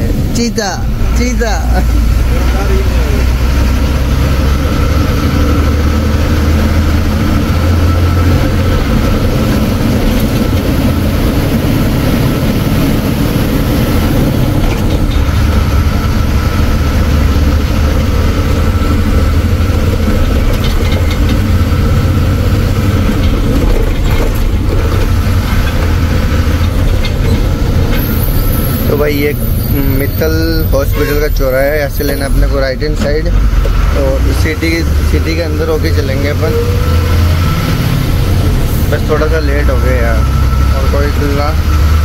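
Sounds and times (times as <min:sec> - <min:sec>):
diesel truck engine drone: 0:00.0 - 0:42.0.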